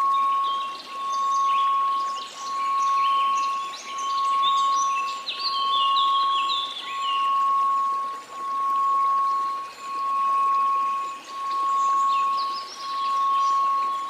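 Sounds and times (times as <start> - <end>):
high chirping notes: 0.0 - 14.0
steady pure tone: 0.0 - 14.0
white noise: 0.0 - 14.0.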